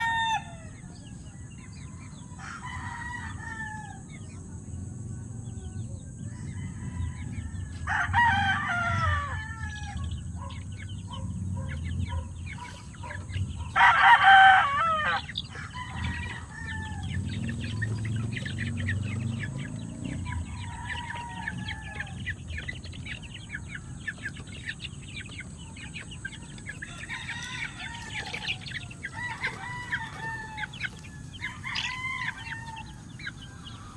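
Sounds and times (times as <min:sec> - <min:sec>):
chickens clucking: 0:00.0 - 0:33.9
roosters crowing: 0:00.0 - 0:33.9.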